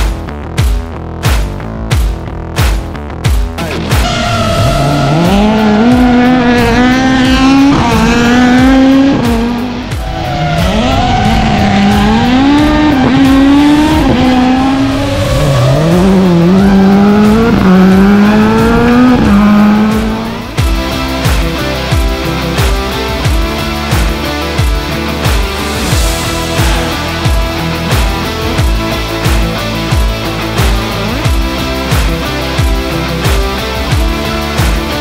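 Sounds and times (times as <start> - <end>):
rally car engine revving: 3.6 - 35.0.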